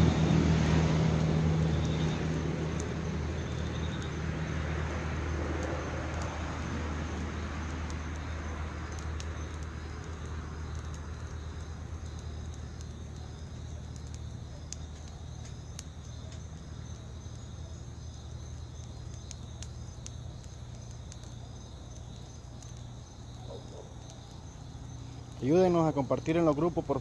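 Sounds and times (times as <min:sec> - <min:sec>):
crickets chirping: 0:00.0 - 0:27.0
flames crackling: 0:00.0 - 0:27.0.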